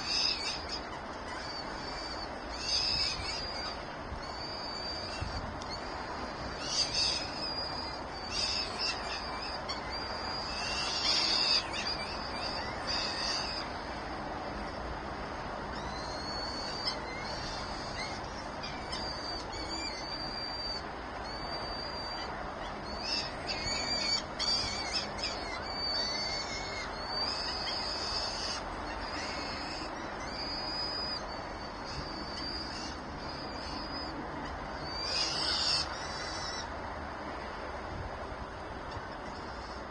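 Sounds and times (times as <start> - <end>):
birds chirping and whistling: 0.0 - 14.0, 15.6 - 36.8
steady background noise: 0.0 - 39.9.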